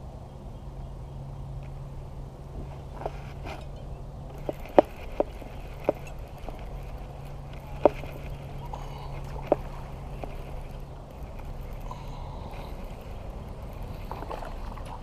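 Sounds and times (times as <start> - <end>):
fishing reel whirring: 2.8 - 15.0.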